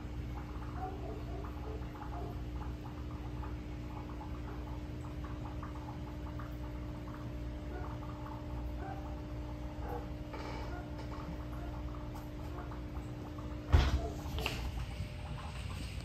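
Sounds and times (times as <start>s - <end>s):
air bubbles bubbling in water: 0.0s - 16.0s
steady low hum: 0.0s - 16.0s.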